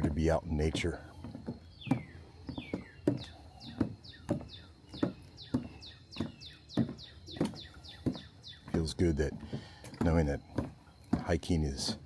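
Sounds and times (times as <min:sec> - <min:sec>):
bird chirping: 0:00.0 - 0:12.0
footsteps on wooden boardwalk: 0:00.0 - 0:12.0.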